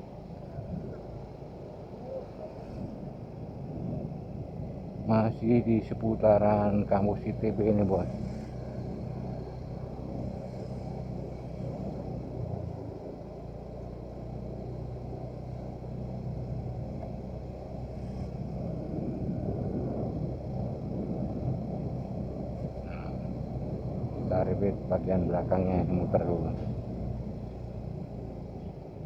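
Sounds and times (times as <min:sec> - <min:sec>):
motorcycle engine running: 0:00.0 - 0:29.0
road rumble: 0:00.0 - 0:29.0
wind: 0:00.0 - 0:29.0.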